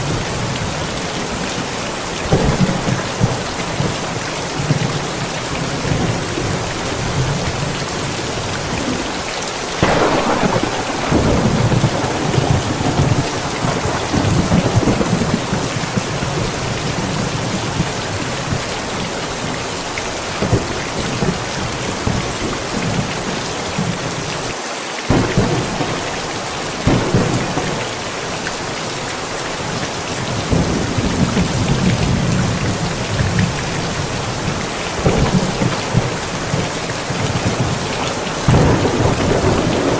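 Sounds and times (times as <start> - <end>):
thunder rumbling: 0.0 - 24.2, 25.1 - 39.9
steady rain: 0.0 - 39.9.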